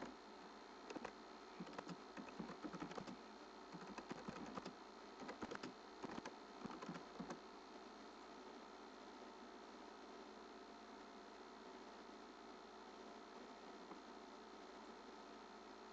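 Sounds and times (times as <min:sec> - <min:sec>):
faint steady hiss: 0:00.0 - 0:15.9.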